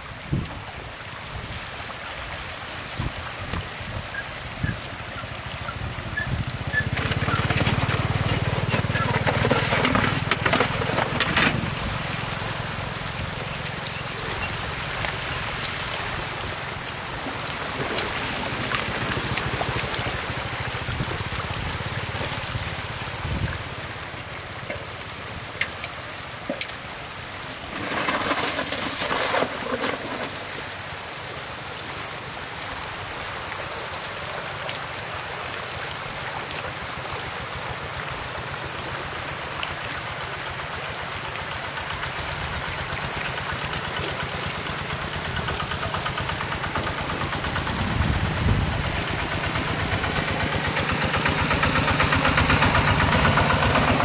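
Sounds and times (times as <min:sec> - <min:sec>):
floodwater rushing: 0:00.0 - 0:54.0
splashing in water: 0:01.7 - 0:54.0.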